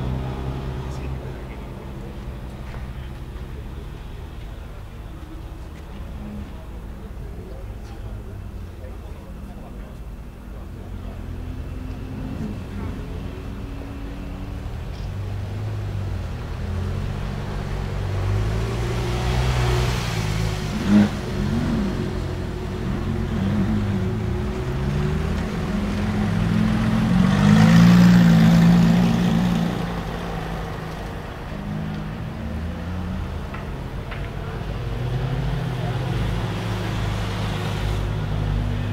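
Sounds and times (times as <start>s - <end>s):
car engines running: 0.0s - 38.9s.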